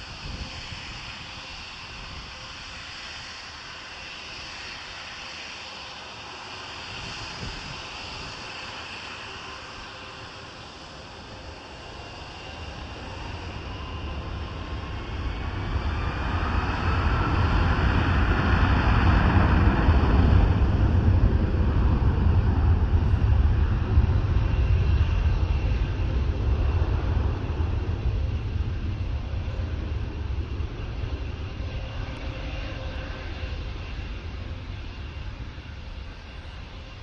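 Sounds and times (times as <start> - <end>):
jet engine whine: 0.0 - 37.0
jet engines rumbling: 0.0 - 37.0.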